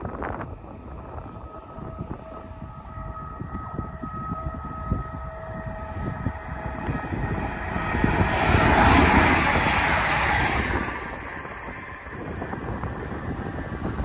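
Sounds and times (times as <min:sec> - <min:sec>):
electric train passing at speed: 0:00.0 - 0:14.0.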